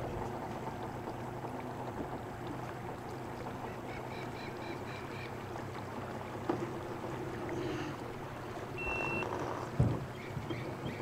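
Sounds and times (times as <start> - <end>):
distant outboard motor humming: 0.0 - 11.0.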